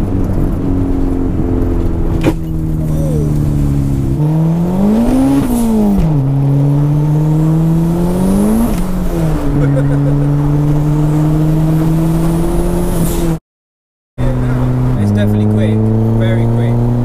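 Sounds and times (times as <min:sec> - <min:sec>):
car engine revving: 0:00.0 - 0:13.4, 0:14.2 - 0:17.0.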